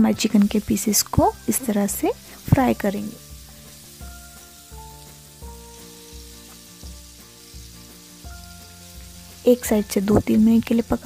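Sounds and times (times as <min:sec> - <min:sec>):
chicken sizzling in hot oil: 0:00.0 - 0:11.0
soft background music with beat: 0:00.0 - 0:11.0.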